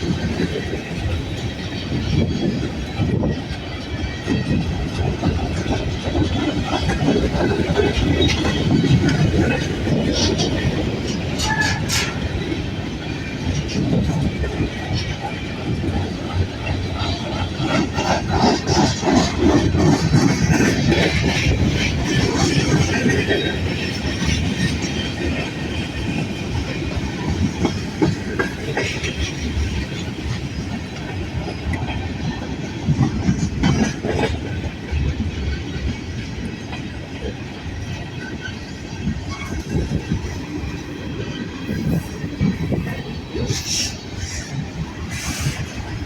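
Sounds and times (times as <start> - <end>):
train wheels clacking over rails: 0.0 - 46.0.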